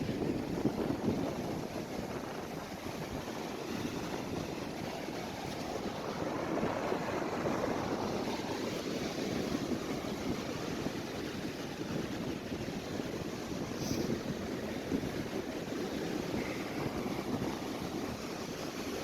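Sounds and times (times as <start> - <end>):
surf washing on a beach: 0.0 - 19.0
wind on the microphone: 0.0 - 19.0.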